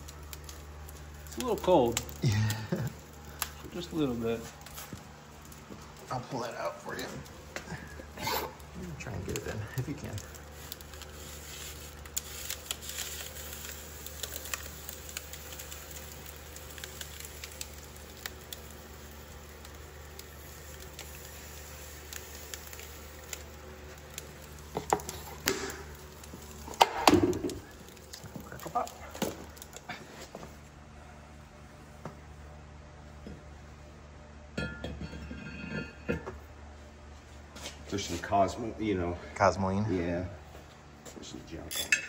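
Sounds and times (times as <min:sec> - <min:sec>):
liquid nitrogen hissing and crackling: 0:00.0 - 0:33.9, 0:34.5 - 0:42.0
steady low hum: 0:00.0 - 0:42.0.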